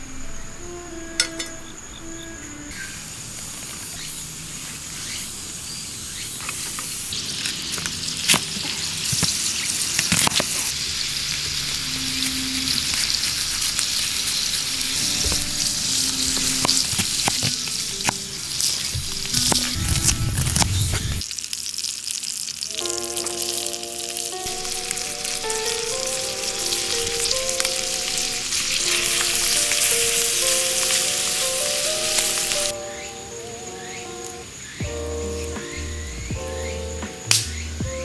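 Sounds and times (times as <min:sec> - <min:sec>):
food sizzling in a pan: 0:02.7 - 0:34.8.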